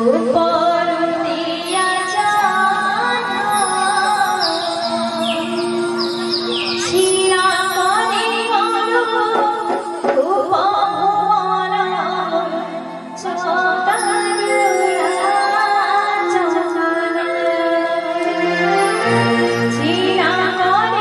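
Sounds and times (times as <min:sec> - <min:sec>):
instrumental accompaniment: 0:00.0 - 0:21.0
woman singing into microphone: 0:00.0 - 0:21.0.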